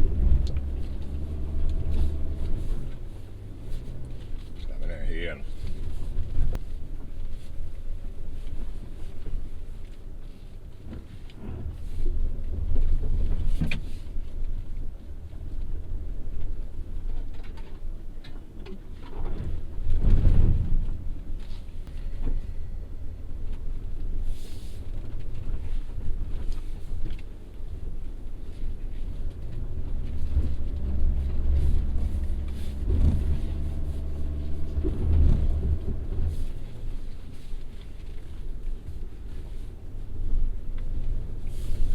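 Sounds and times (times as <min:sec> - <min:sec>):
car engine low rumble: 0:00.0 - 0:41.9.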